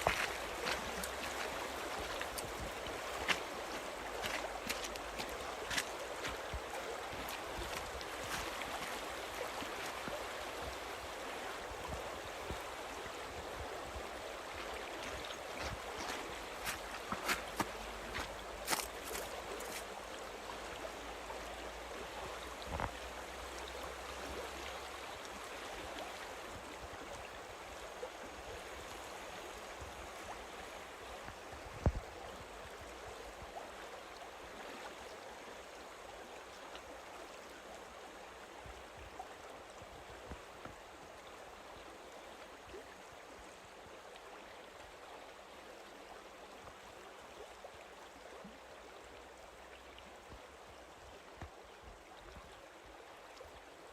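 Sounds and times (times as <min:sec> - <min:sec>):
river water running: 0:00.0 - 0:53.9.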